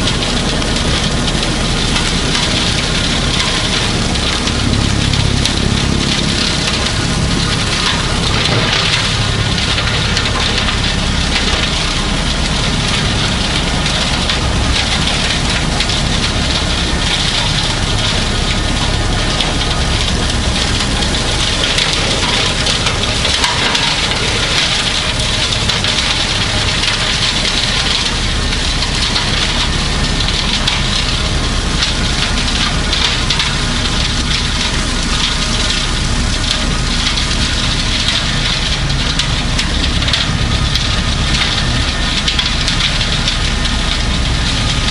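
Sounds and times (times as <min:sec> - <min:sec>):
diesel tractor running: 0:00.0 - 0:44.9.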